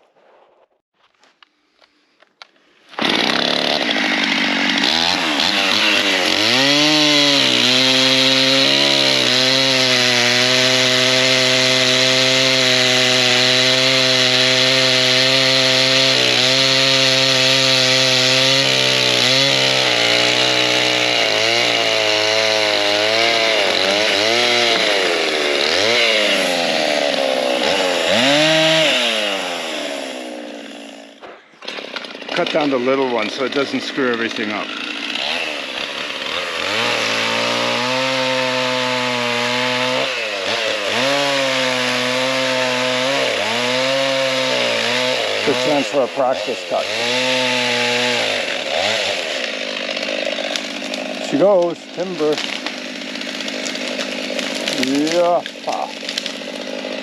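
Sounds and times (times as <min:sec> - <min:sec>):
chainsaw revving: 0:02.9 - 0:57.0.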